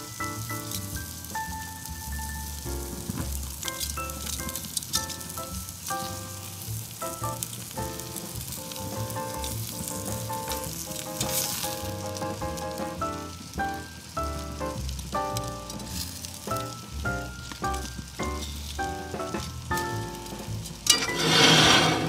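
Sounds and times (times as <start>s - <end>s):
background music with melody: 0.0s - 22.0s
fat crackling on coals: 0.0s - 22.0s
steak sizzling on a grill: 0.0s - 22.0s.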